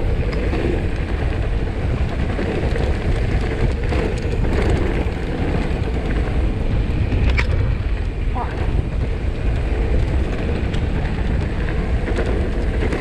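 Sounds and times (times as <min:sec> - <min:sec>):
bike clicks and rattles: 0:00.0 - 0:13.0
tyres rumbling on dirt: 0:00.0 - 0:13.0
wind buffeting microphone: 0:00.0 - 0:13.0.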